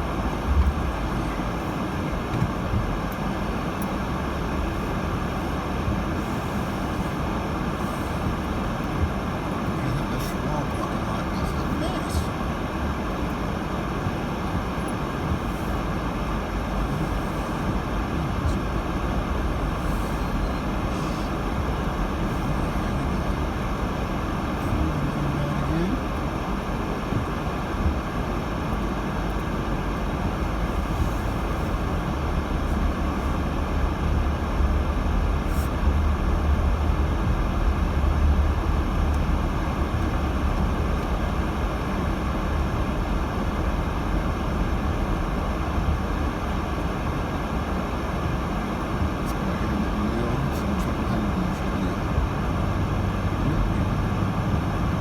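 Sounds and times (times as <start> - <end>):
car cabin road and engine noise: 0.0 - 55.0.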